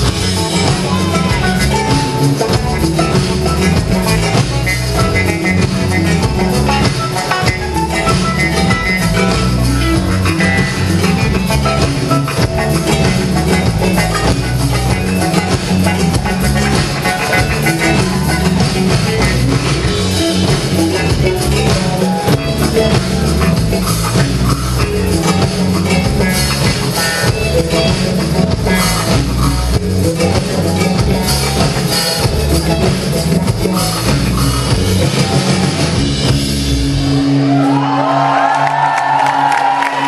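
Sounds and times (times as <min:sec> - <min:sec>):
rock band playing live: 0:00.0 - 0:40.0.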